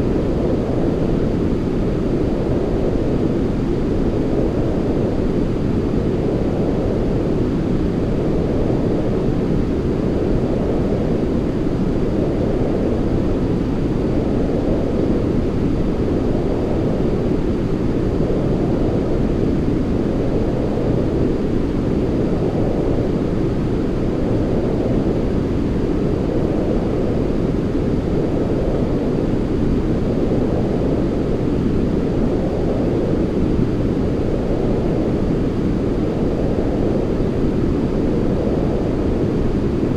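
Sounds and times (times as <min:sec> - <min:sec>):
deep muffled white noise: 0:00.0 - 0:39.9.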